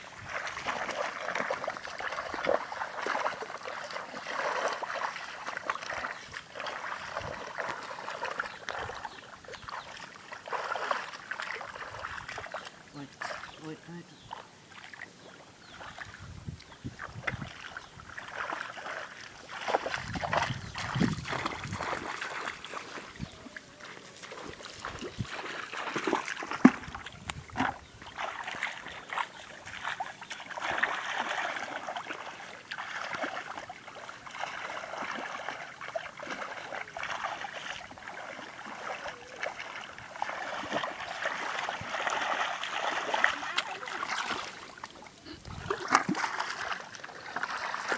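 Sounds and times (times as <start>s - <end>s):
splashing through muddy water: 0.0s - 47.9s.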